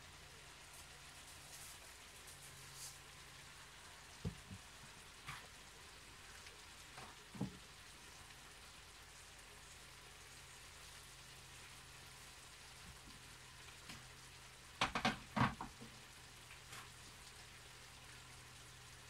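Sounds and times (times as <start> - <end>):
food sizzling in a pan: 0.0 - 19.0
soft crackles and pops: 0.4 - 19.0.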